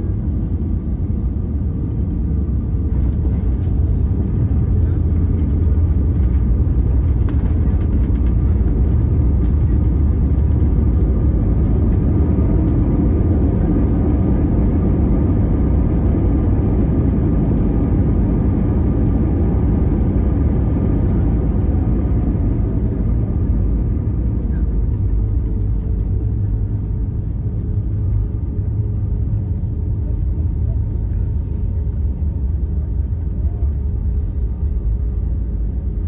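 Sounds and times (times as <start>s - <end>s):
aircraft engines and airflow rumble: 0.0s - 36.0s.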